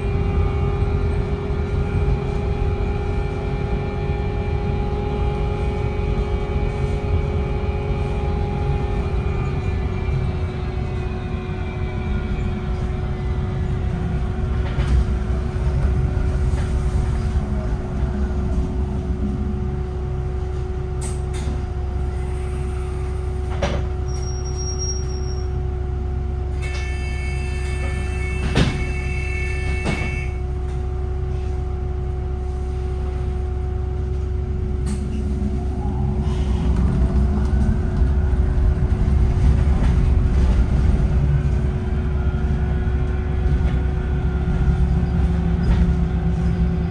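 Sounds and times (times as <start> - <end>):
bus whine: 0.0 - 46.9
low bus rumble: 0.0 - 46.9.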